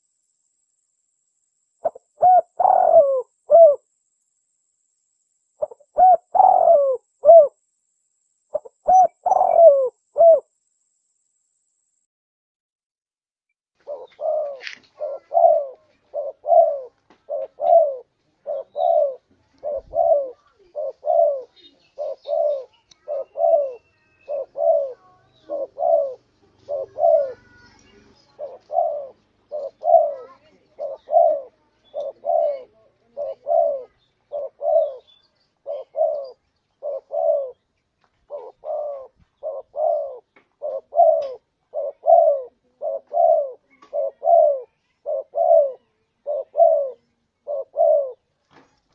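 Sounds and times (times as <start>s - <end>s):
dove cooing: 1.8s - 3.9s, 5.6s - 7.6s, 8.5s - 10.5s, 13.8s - 48.3s.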